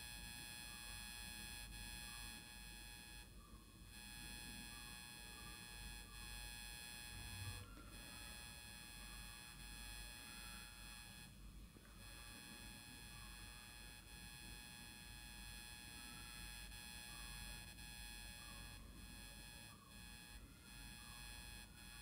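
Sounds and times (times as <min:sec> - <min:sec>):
faint electrical buzz: 0:00.0 - 0:22.0.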